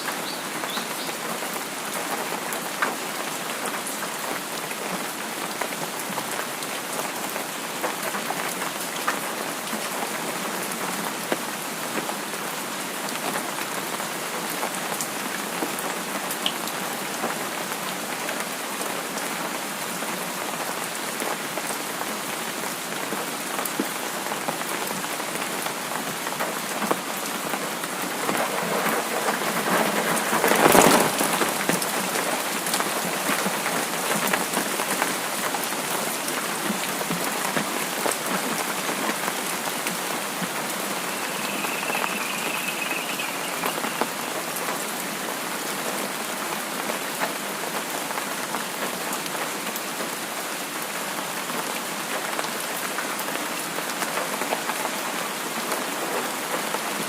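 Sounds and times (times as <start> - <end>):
rain falling on a surface: 0.0 - 57.0.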